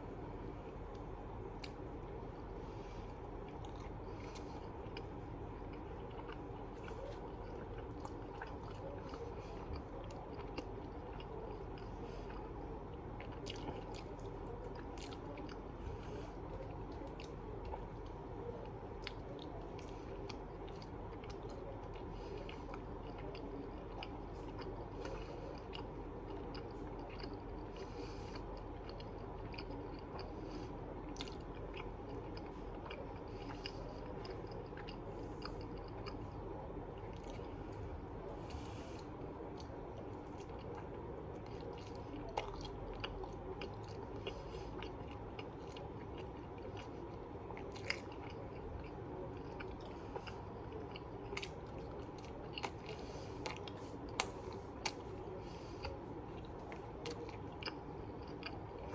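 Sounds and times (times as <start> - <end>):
low background hum: 0.0 - 58.9
person chewing food: 0.0 - 58.9.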